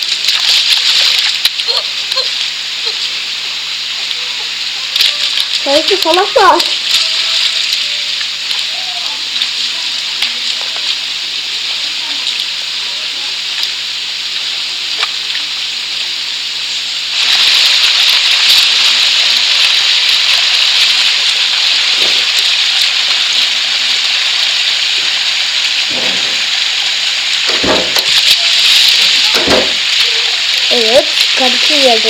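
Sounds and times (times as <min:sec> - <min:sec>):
food sizzling: 0:00.0 - 0:32.0.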